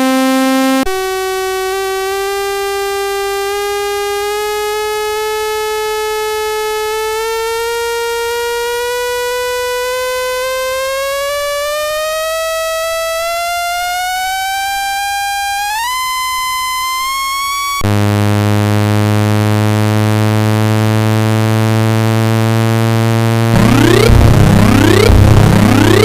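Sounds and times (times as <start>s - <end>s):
electronic tone rising in pitch: 0.0s - 26.0s.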